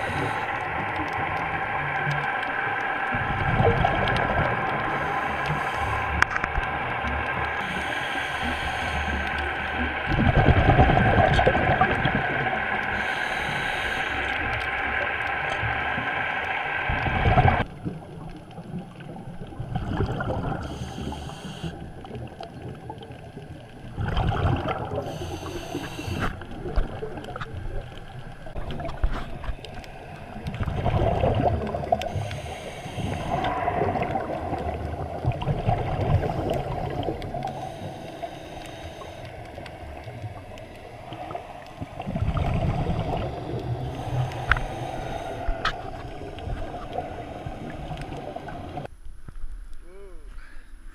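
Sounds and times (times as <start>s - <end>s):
gurgling bubbles underwater: 0.0s - 48.9s.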